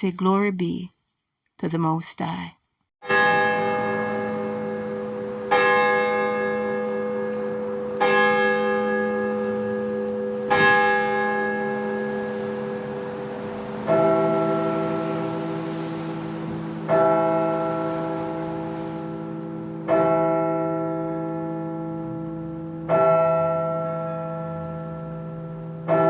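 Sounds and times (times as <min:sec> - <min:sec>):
church bell tolling: 0:03.0 - 0:26.0.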